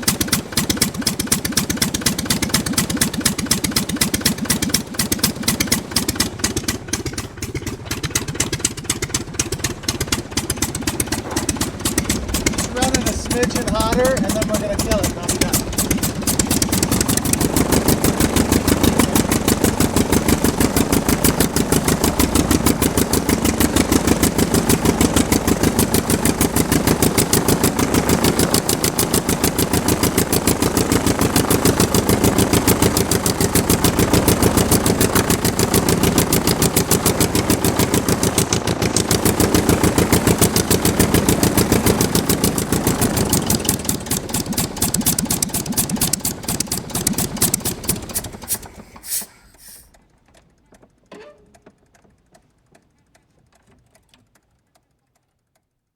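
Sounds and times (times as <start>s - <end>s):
aircraft engine running: 0.0s - 49.9s.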